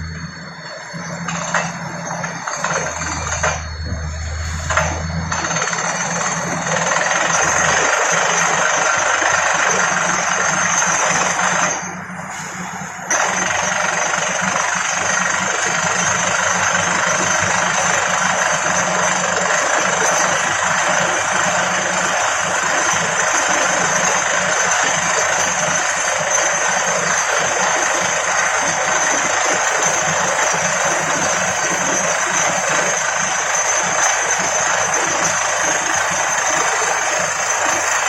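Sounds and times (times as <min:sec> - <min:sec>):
drilling rig engine drone: 0:00.0 - 0:38.0.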